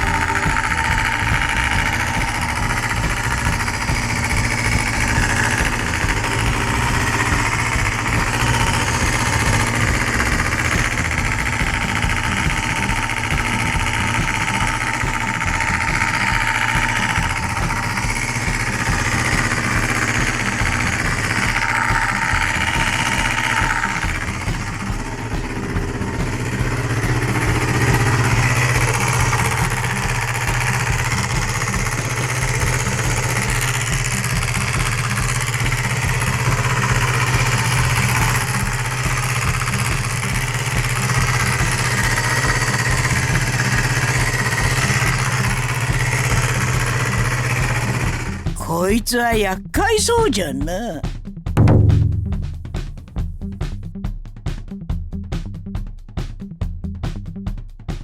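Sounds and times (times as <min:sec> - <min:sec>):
mechanical engine noise: 0:00.0 - 0:48.6
motorcycle engine running: 0:00.0 - 0:48.6, 0:51.6 - 0:53.9.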